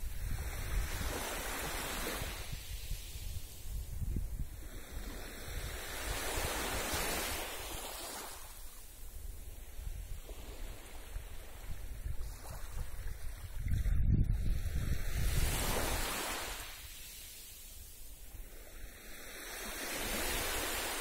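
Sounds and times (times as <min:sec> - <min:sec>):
waves lapping on beach: 0:00.0 - 0:21.0
wind rumble on microphone: 0:00.0 - 0:21.0.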